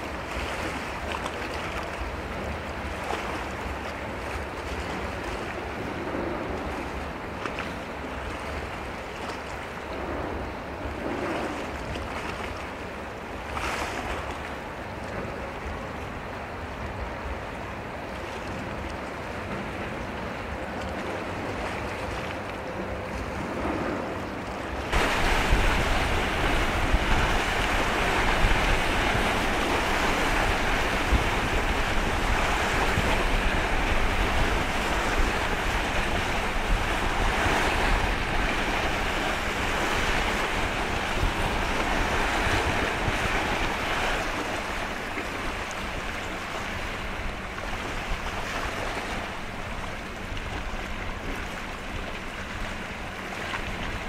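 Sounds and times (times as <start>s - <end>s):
sea water rushing: 0.0s - 54.0s
wind buffeting microphone: 0.0s - 54.0s.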